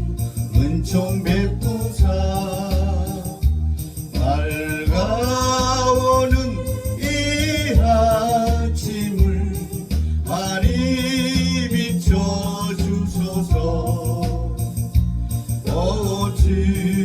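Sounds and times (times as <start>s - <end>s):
band backing track with bass beat: 0.0s - 17.0s
solo singer with vibrato: 0.0s - 17.0s.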